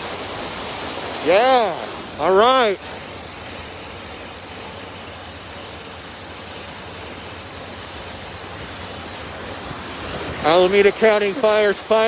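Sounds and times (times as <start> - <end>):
water rushing from hydrant: 0.0 - 12.0.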